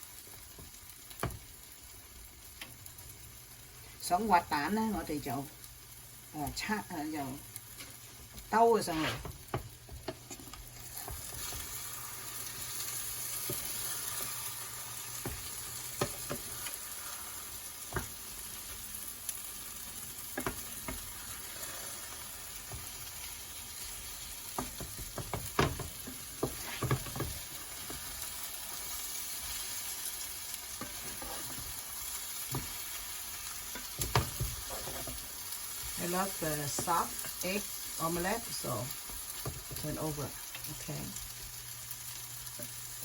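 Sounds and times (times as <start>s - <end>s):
eggs sizzling in a pan: 0.0s - 43.0s.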